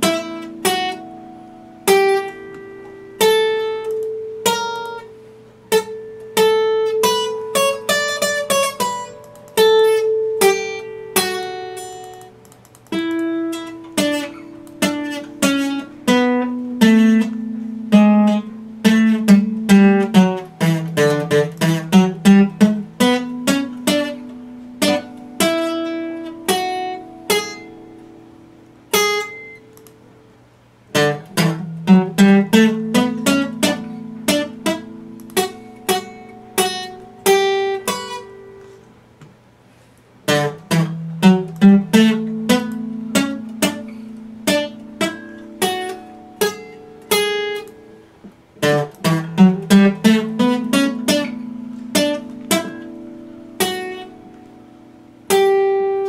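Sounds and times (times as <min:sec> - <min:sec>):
acoustic guitar plucked: 0:00.0 - 0:56.0.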